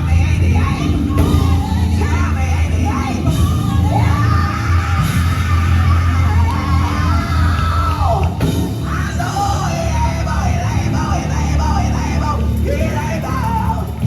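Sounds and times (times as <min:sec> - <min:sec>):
live gospel band with bass: 0:00.0 - 0:14.0
person singing: 0:00.0 - 0:14.0.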